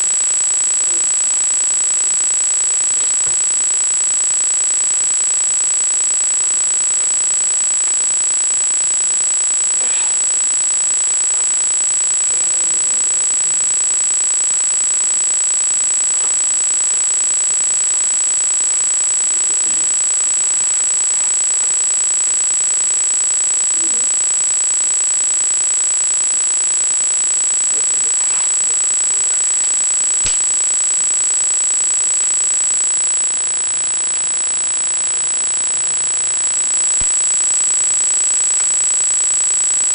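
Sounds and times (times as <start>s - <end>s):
high-pitched electronic whine: 0.0s - 39.9s.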